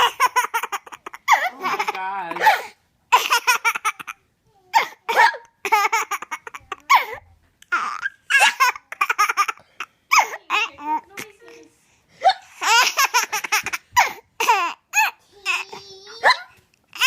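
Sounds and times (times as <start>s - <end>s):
baby laughing: 0.0s - 11.6s, 12.2s - 17.0s.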